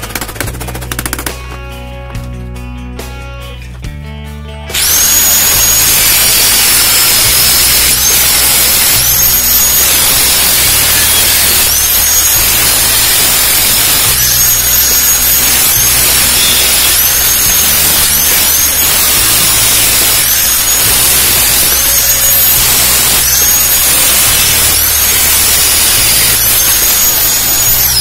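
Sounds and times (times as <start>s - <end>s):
angle grinder cutting metal: 4.7s - 28.0s.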